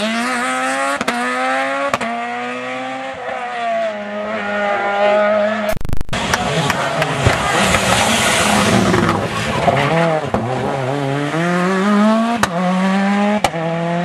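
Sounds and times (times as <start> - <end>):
rally car engine at full throttle: 0.0 - 14.0.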